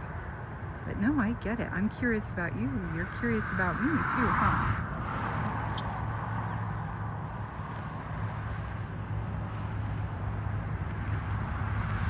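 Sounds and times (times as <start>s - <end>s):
outdoor road noise: 0.0s - 12.0s
vehicle engine humming: 0.0s - 12.0s.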